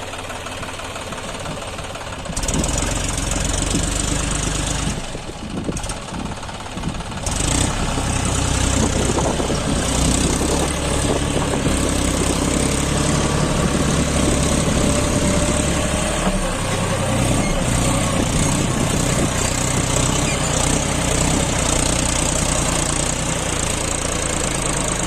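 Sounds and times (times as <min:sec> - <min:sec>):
tractor diesel engine knocking: 0:00.0 - 0:25.0.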